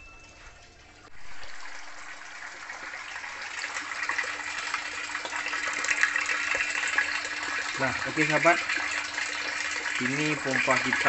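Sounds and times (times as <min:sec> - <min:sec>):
water splashing into barrel: 0:00.0 - 0:11.0.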